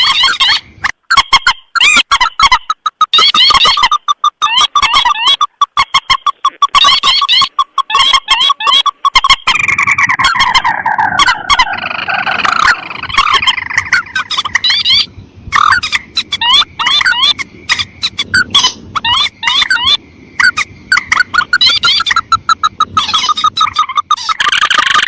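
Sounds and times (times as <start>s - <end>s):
falling bird trill: 0.0s - 25.0s
rail and crake calls: 0.0s - 25.0s.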